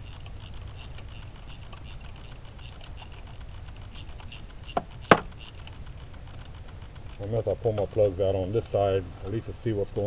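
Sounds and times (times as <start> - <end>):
ratchet wrench clicking: 0.0 - 9.0.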